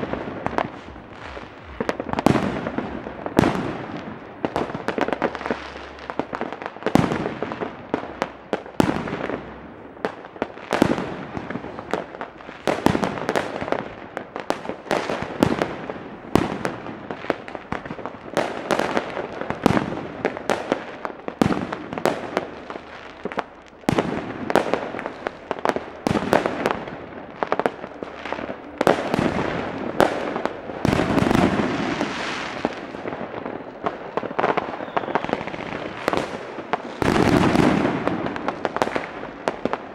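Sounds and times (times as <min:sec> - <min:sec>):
fireworks bangs: 0:00.0 - 0:39.9
fireworks crackling: 0:00.0 - 0:39.9
rockets bursting overhead: 0:00.0 - 0:39.9.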